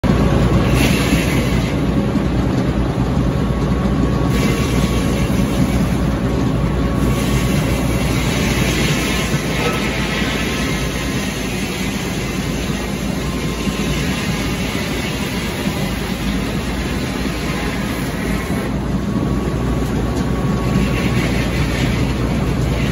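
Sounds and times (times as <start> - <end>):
sawmill engine droning: 0.0 - 22.9.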